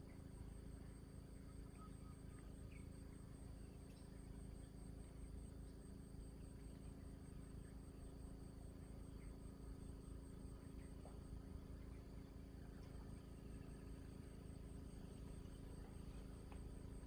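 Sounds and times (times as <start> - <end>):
low steady hum: 0.0 - 17.0
insect chirring: 0.1 - 17.0.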